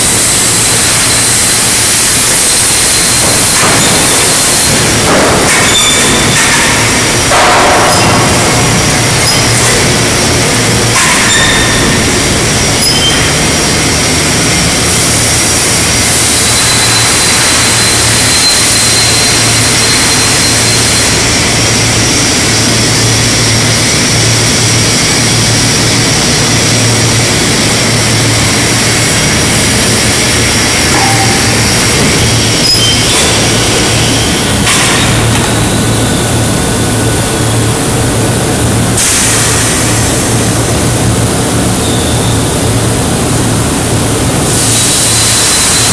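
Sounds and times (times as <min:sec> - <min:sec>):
low machinery hum: 0:00.0 - 0:45.9.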